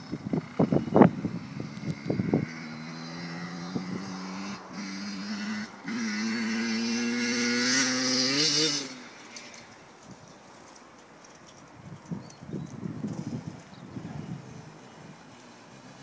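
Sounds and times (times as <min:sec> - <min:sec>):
motocross bike engine: 0:00.0 - 0:10.8, 0:12.9 - 0:16.0.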